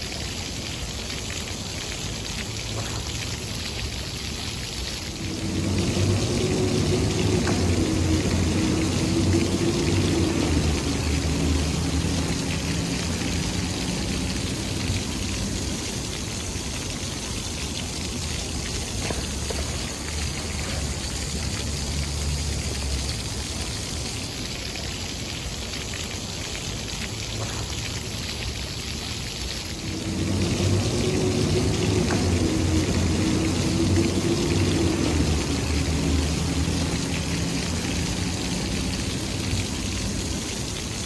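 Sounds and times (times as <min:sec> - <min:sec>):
fountain jets splashing into pool: 0:00.0 - 0:41.0
low traffic hum: 0:00.0 - 0:41.0.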